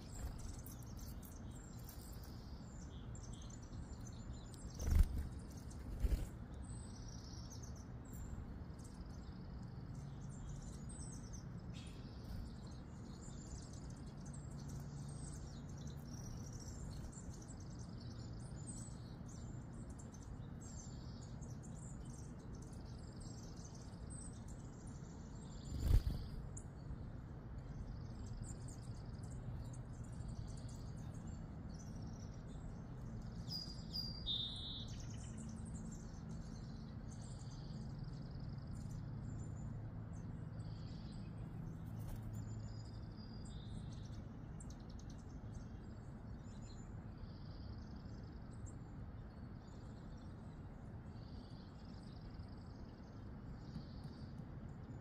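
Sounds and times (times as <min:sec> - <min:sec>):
low background noise: 0:00.0 - 0:55.0
songbirds chirping: 0:00.0 - 0:55.0.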